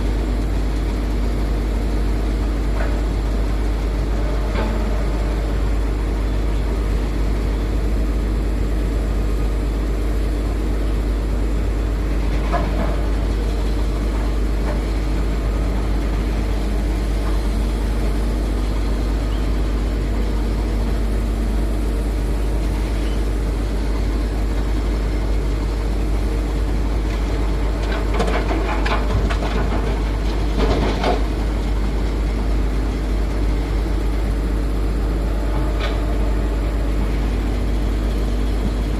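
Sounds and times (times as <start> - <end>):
heavy diesel machinery humming: 0.0 - 38.9.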